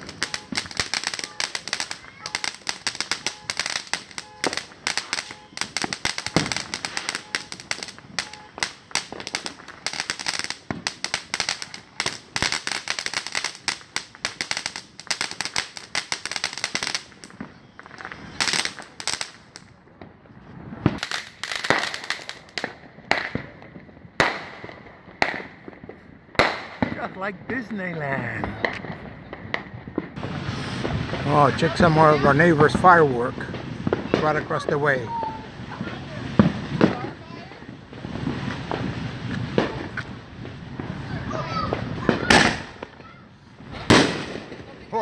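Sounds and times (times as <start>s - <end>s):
aerial fireworks banging: 0.0s - 45.0s
firework fountain crackling: 0.0s - 45.0s.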